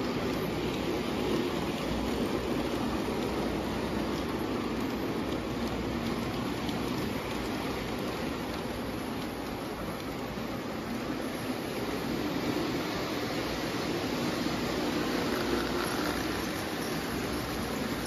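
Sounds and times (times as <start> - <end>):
model train rolling on metal rails: 0.0 - 18.0.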